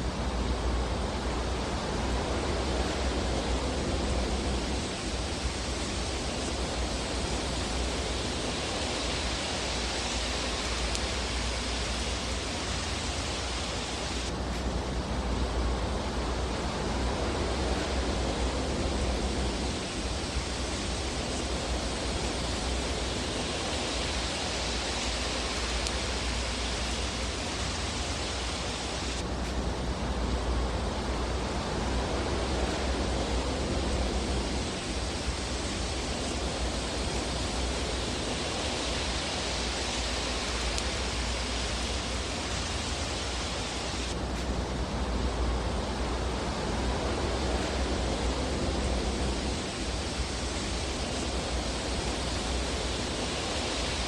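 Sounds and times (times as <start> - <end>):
fire rushing hiss: 0.0 - 54.0
low fire rumble: 0.0 - 54.0.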